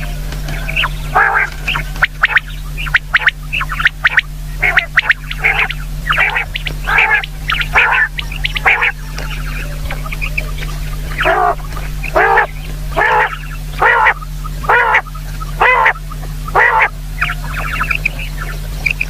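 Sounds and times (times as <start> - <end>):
quail calling: 0.0 - 19.0.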